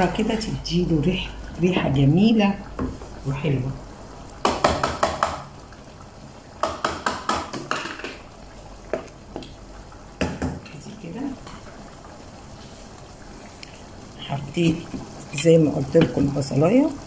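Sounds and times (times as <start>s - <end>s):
sauce simmering: 0.0s - 17.0s.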